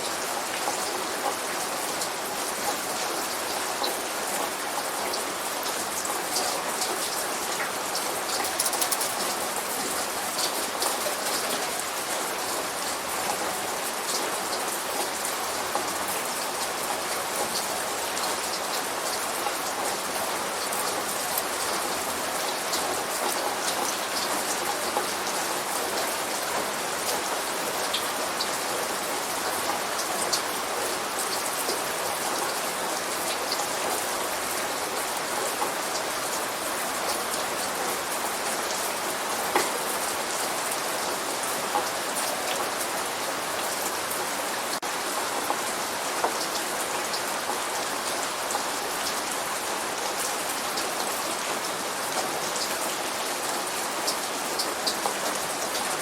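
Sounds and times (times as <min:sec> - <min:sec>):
light rain hissing: 0:00.0 - 0:55.9.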